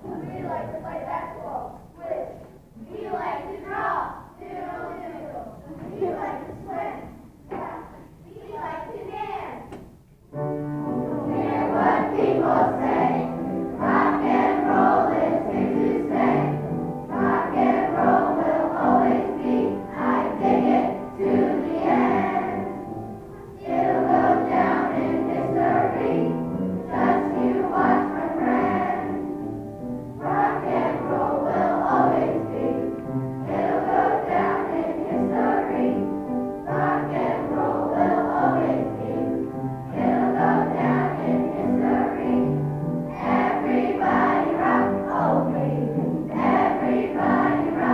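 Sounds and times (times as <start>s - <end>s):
children's choir singing: 0.0s - 47.9s.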